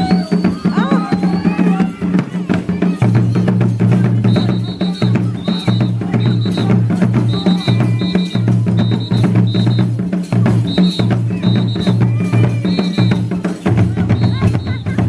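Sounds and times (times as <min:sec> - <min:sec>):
drum music with steady beat: 0:00.0 - 0:15.0.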